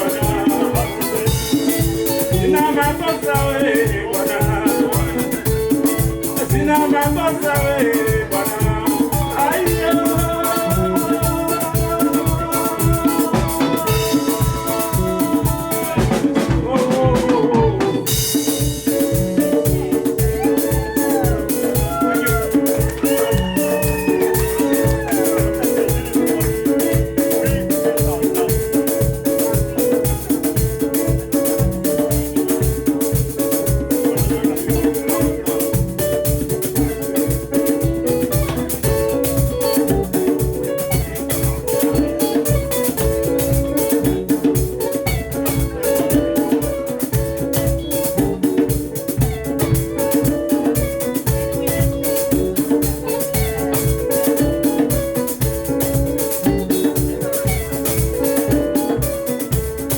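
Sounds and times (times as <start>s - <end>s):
bass: 0.0s - 59.9s
interlocking guitar lines: 0.0s - 59.9s
steady drum beat: 0.0s - 59.9s.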